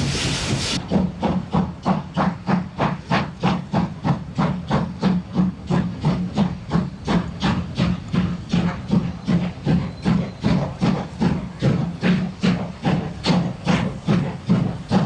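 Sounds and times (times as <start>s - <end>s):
steam hissing from cylinder cocks: 0.0s - 15.0s
steam locomotive exhaust beats: 0.0s - 15.0s.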